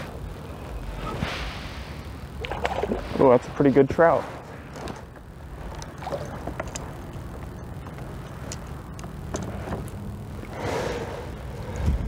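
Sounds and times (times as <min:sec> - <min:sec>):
water lapping around kayak: 0:00.0 - 0:12.0
wind rumbling on microphone: 0:00.0 - 0:12.0.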